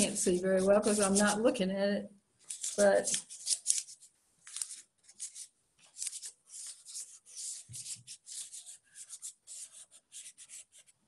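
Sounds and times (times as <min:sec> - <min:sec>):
pastel scratching on paper: 0:00.0 - 0:01.5, 0:02.5 - 0:11.0.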